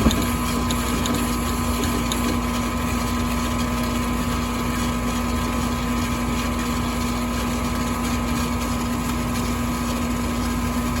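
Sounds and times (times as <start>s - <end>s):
furnace humming: 0.0s - 11.0s.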